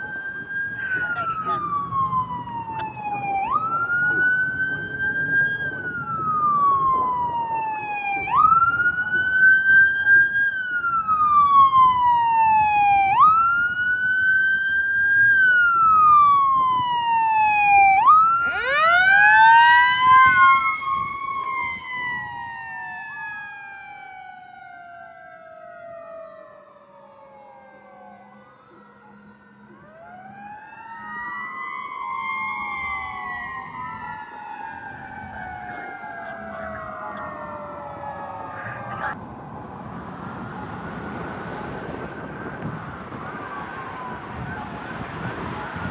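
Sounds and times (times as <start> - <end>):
emergency vehicle sirens wailing: 0.0 - 45.9.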